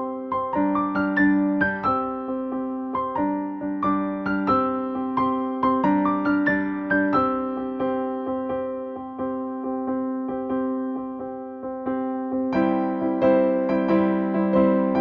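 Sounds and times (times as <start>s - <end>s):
gentle electric piano: 0.0s - 15.0s.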